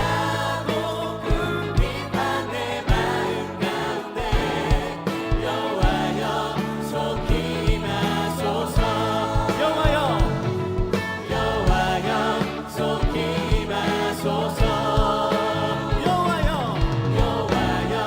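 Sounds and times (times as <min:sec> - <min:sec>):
group of voices singing: 0:00.0 - 0:18.0
worship band playing: 0:00.0 - 0:18.0.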